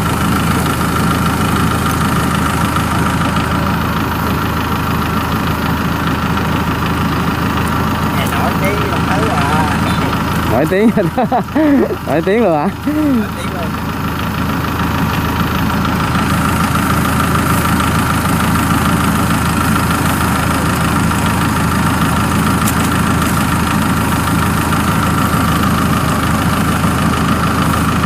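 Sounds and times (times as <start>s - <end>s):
farm machine engine running: 0.0s - 28.0s.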